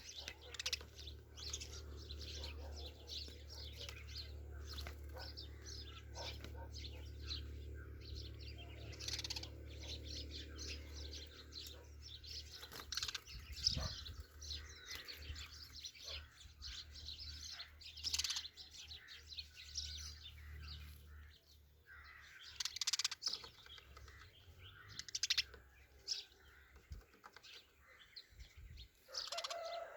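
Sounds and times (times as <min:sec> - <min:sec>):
sparrows chirping: 0:00.0 - 0:29.9.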